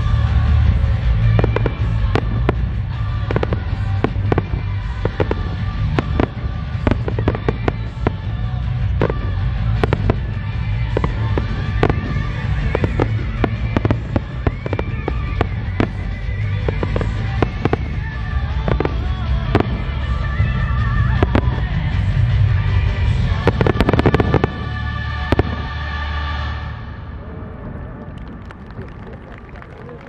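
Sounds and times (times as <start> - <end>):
pop music: 0.0 - 26.4
fireworks cracking: 0.0 - 26.5
deep fireworks rumble: 0.0 - 30.0.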